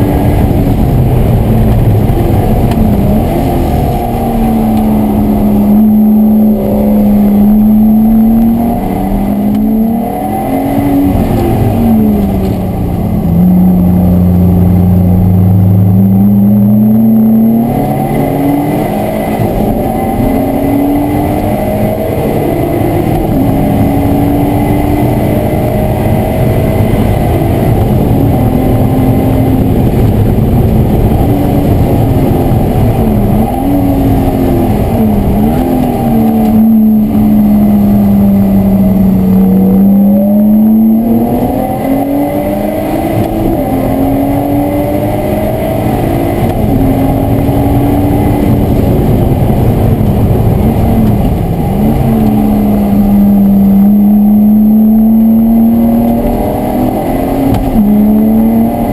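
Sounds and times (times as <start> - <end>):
car engine revving through gears: 0.0 - 58.9
road and wind noise: 0.0 - 58.9.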